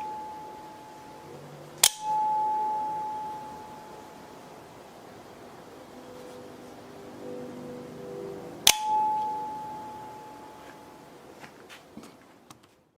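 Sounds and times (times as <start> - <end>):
metal ringing tone: 0.0 - 11.2.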